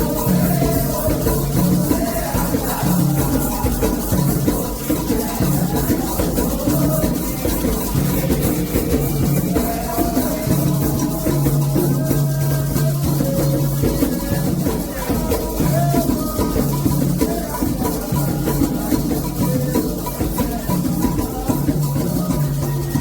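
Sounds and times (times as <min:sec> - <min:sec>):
hand drums fast rhythm: 0:00.0 - 0:23.0
shaken rattle: 0:00.0 - 0:23.0
voices singing a chant: 0:00.0 - 0:23.0.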